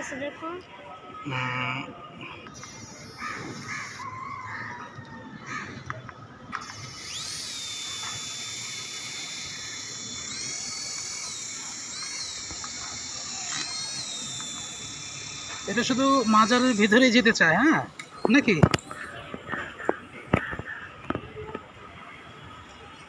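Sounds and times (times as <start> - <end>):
toy helicopter rotor motors whining: 1.2 - 21.6.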